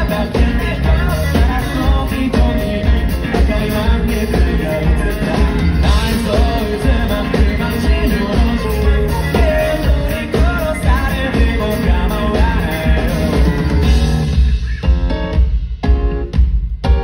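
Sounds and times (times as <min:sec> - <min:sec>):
man singing lead vocal: 0:00.0 - 0:14.9
live rock band playing: 0:00.0 - 0:17.0.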